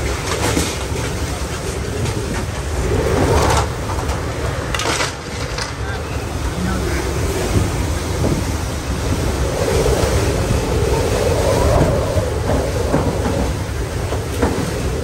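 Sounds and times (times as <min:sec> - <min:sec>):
driven rain: 0:00.0 - 0:15.0
wind buffeting microphone: 0:00.0 - 0:15.0.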